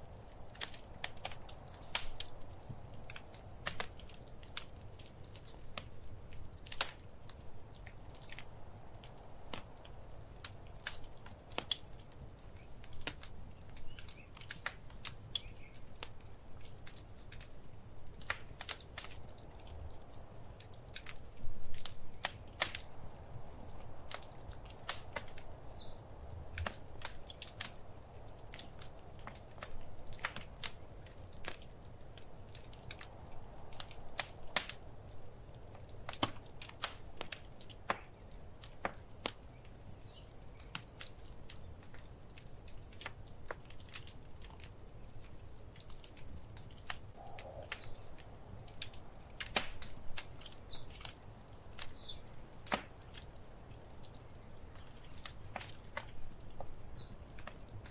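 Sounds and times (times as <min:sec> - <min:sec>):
low rumble of flames: 0:00.0 - 0:57.9
wood fire crackling and popping: 0:00.0 - 0:57.9.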